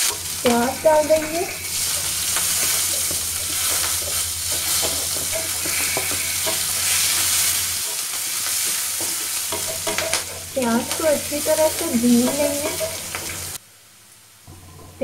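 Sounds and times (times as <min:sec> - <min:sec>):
spatula scraping a pan: 0:00.0 - 0:13.6
onions sizzling in hot oil: 0:00.0 - 0:15.0.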